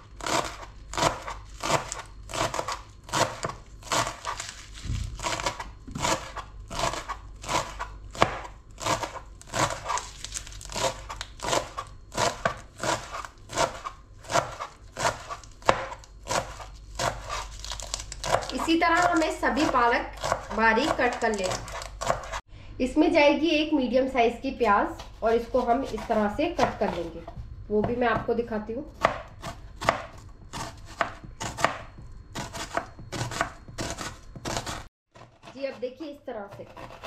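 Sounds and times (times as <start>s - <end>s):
knife chopping on cutting board: 0.2s - 22.4s, 25.0s - 28.3s, 29.0s - 35.6s, 36.5s - 37.0s.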